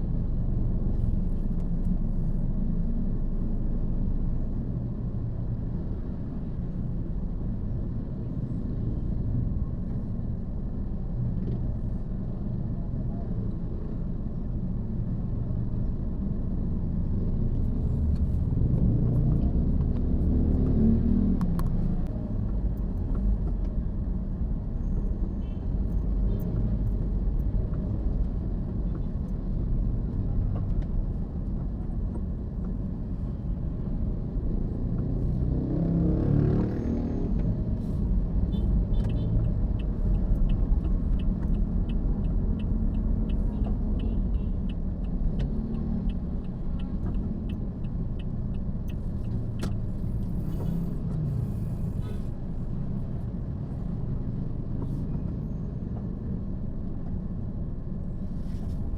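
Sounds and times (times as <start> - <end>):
car driving rumble: 0.0 - 58.9.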